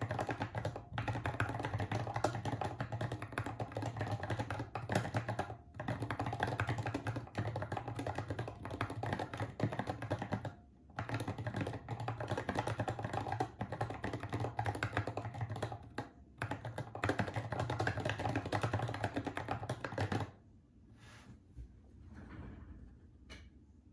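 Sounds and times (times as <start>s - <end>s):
fast typing on keyboard: 0.0s - 20.4s.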